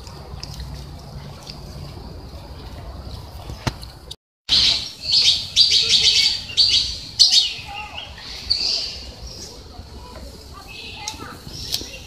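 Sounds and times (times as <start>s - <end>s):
faint outdoor background: 0.0s - 12.0s
birds chirping: 0.2s - 12.0s.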